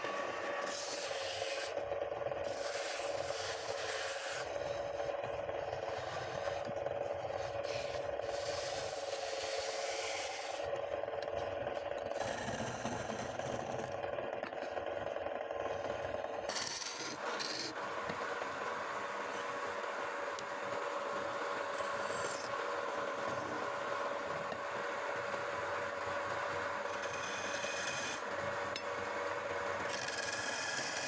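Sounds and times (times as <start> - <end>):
tool scraping spinning wood: 0.0 - 25.0, 26.1 - 29.2, 29.8 - 31.0
lathe motor hum: 0.0 - 31.0.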